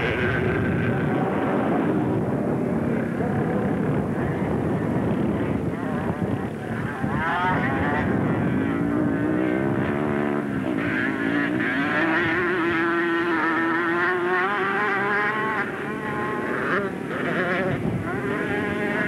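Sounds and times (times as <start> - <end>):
atv engine revving hard: 0.0 - 19.0.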